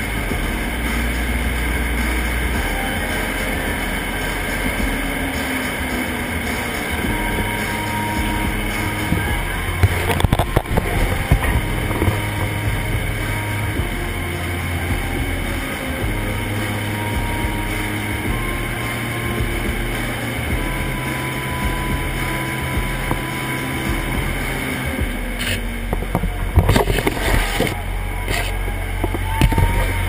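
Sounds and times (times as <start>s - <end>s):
low drone: 0.0s - 30.0s.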